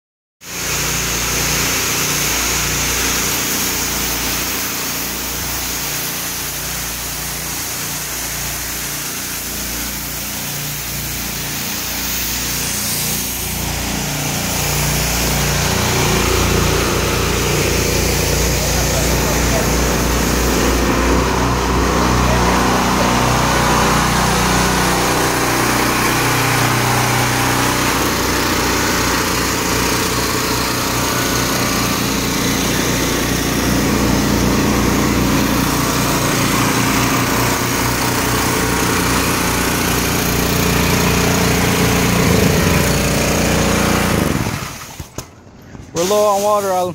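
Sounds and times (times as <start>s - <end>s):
small gasoline engines running: 0.4s - 46.9s.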